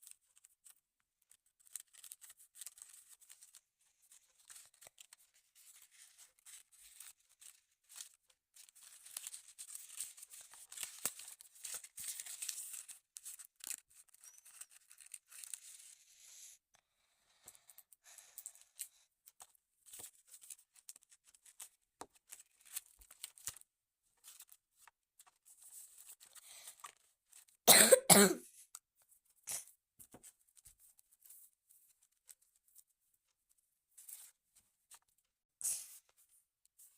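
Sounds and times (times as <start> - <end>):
rustling and crackling handling noise: 0.0 - 16.1, 17.5 - 27.6, 28.5 - 36.9.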